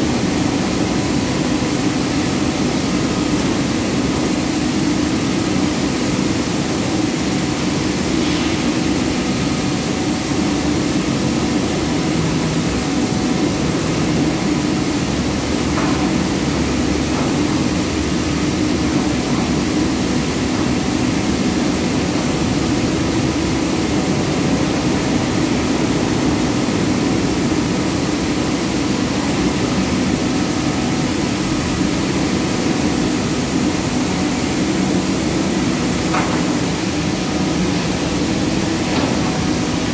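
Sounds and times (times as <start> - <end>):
industrial machinery drone: 0.0 - 39.9.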